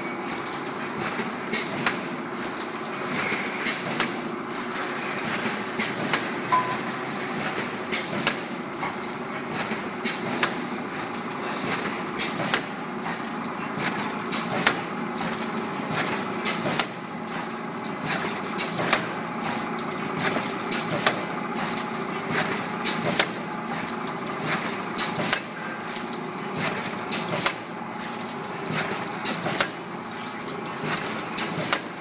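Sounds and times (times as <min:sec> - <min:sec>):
machine mechanical hum: 0:00.0 - 0:32.0.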